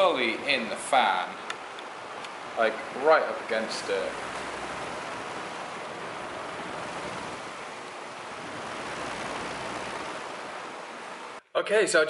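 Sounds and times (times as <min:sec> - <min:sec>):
fan air rushing on microphone: 0:00.0 - 0:11.4.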